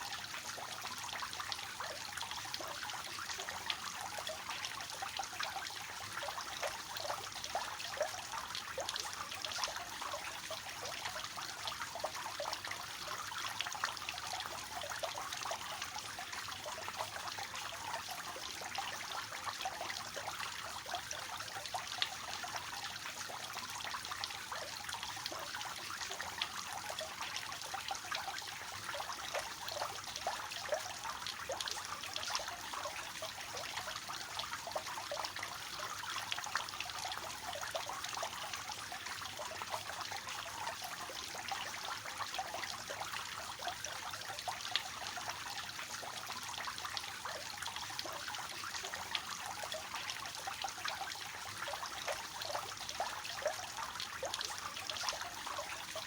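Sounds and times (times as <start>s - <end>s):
fountain water trickling and splashing: 0.0s - 56.0s.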